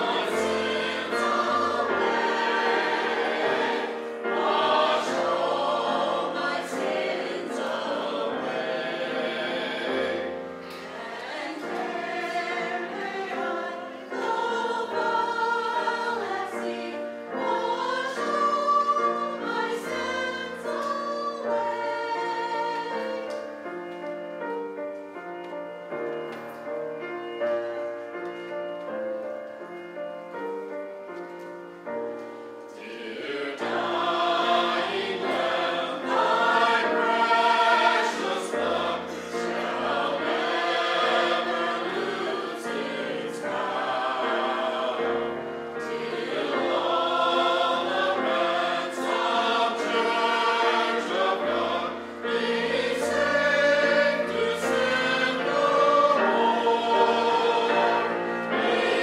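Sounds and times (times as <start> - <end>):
choir singing in parts: 0.0 - 24.8, 32.0 - 59.0.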